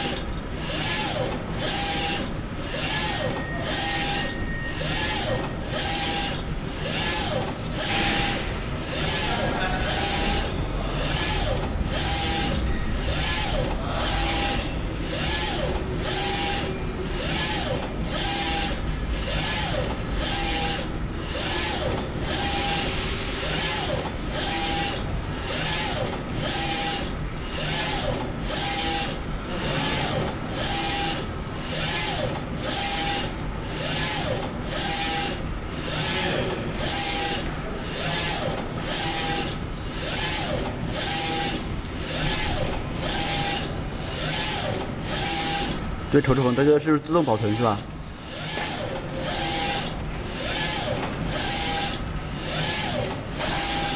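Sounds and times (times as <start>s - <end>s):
printer carriage rhythmic whir: 0.0s - 53.9s
steady machine hum: 0.0s - 53.9s.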